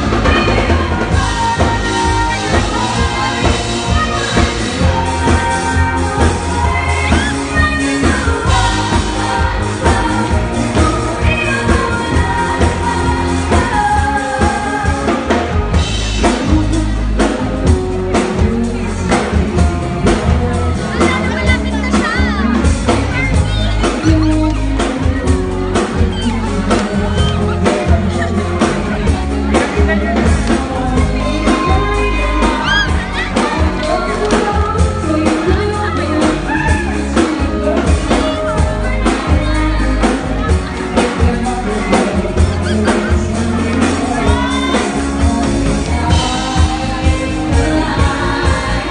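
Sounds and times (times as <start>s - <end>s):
bass: 0.0s - 48.9s
drum kit beat: 0.0s - 48.9s
keyboard: 0.0s - 48.9s
woman singing: 0.0s - 48.9s.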